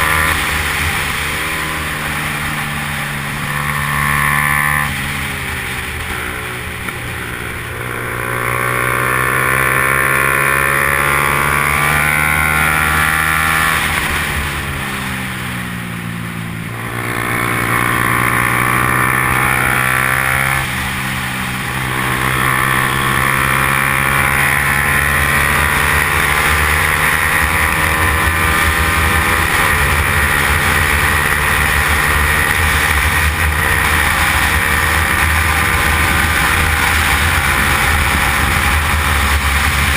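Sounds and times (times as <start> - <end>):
motorcycle engine at racing speed: 0.0 - 39.9.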